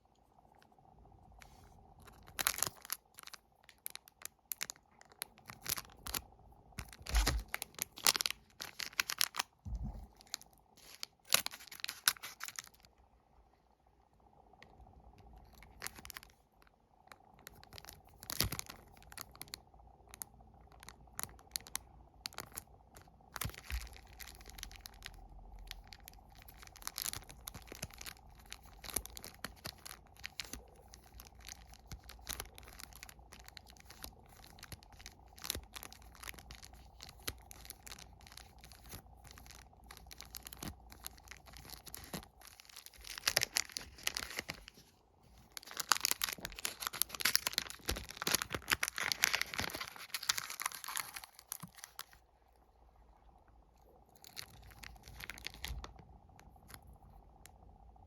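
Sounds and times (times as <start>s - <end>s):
plastic wrappers crinkling and tearing: 1.3s - 12.9s, 15.1s - 52.3s, 53.9s - 57.6s.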